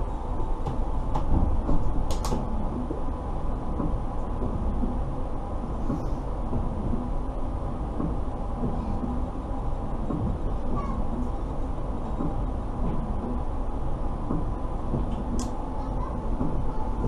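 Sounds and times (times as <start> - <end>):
tram cab hum: 0.0 - 17.0.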